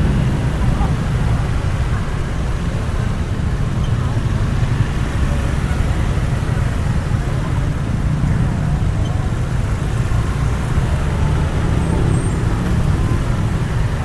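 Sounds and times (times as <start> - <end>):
traffic engines at a crawl: 0.0 - 14.0.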